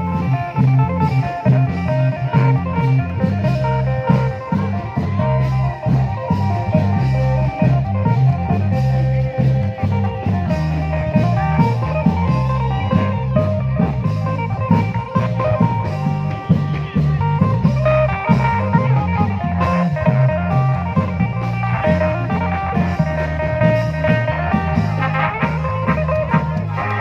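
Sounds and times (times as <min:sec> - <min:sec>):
driving drum beat: 0:00.0 - 0:27.0
sustained melody line: 0:00.0 - 0:27.0.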